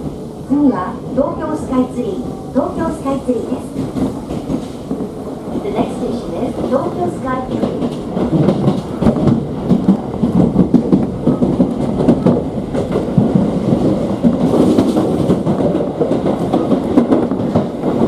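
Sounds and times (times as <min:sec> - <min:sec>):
train wheel rumble: 0:00.0 - 0:18.0
wheels clattering over rails: 0:02.6 - 0:18.0.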